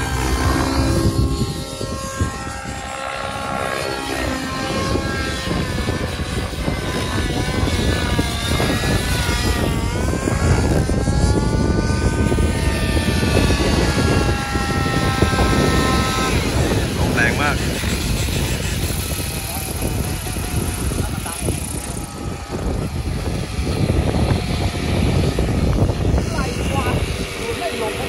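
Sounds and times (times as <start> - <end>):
rc helicopter engine whine: 0.0 - 28.0.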